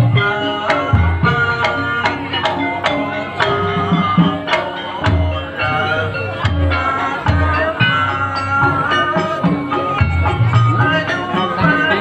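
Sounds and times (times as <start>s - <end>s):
gamelan playing: 0.0s - 12.0s
hand drum beats: 0.0s - 12.0s.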